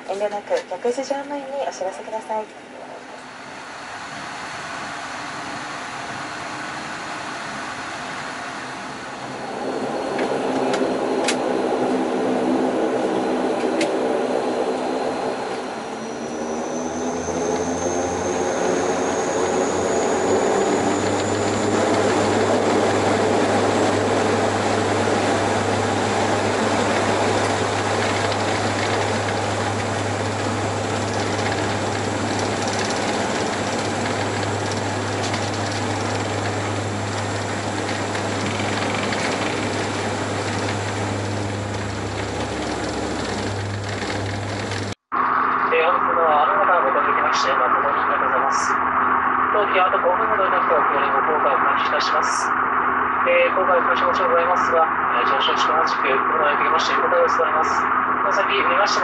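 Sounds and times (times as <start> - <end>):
high engine whine: 0.0 - 59.0
turboprop engines droning: 0.0 - 59.0.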